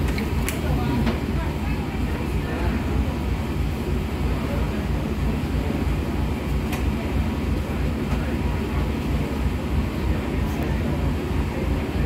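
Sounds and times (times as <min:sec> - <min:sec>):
ferry engine rumble: 0:00.0 - 0:12.0.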